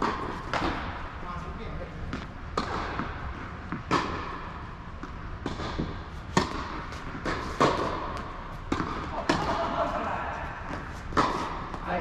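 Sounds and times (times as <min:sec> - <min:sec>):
tennis balls struck and bouncing: 0:00.0 - 0:01.1, 0:02.1 - 0:12.0.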